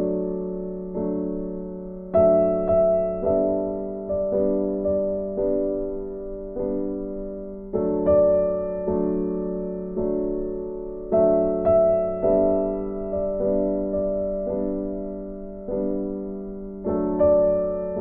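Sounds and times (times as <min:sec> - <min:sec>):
soft keyboard chords: 0:00.0 - 0:18.0.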